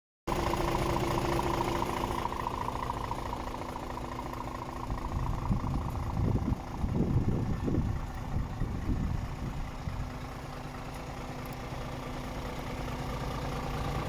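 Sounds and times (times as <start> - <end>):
diesel engine idling: 0.3 - 14.0.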